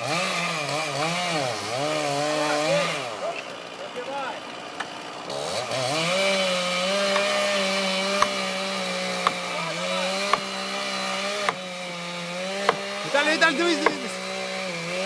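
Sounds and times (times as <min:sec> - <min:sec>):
chainsaw cutting a tree: 0:00.0 - 0:15.0.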